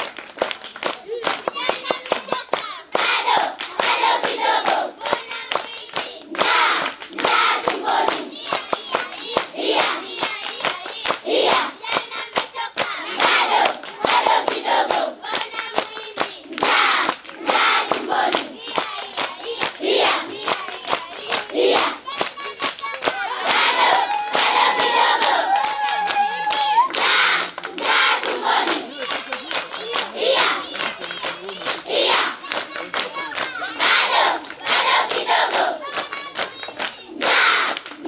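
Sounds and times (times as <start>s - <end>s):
hands clapping rhythmically: 0.0s - 38.0s
girls singing and shouting: 1.2s - 31.2s, 31.8s - 38.0s.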